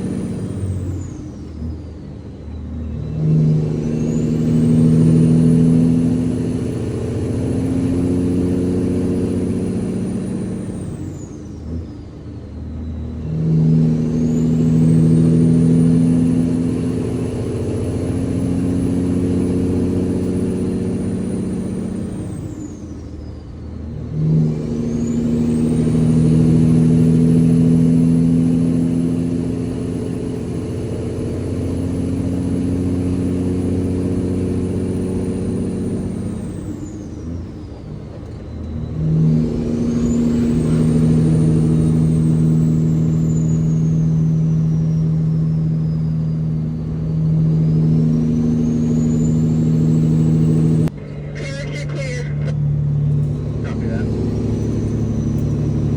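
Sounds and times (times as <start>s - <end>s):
diesel truck engine pulling: 0.0s - 55.9s.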